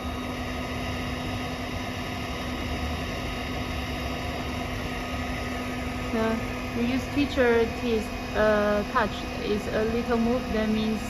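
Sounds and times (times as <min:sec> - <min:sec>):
hot-air blower and fans humming: 0:00.0 - 0:11.0.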